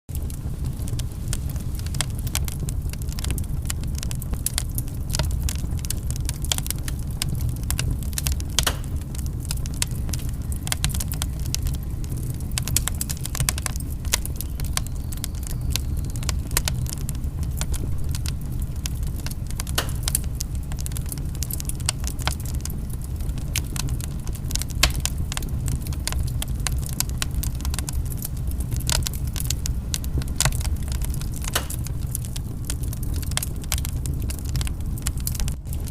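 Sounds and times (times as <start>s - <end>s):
wood fire crackling and popping: 0.1s - 35.9s.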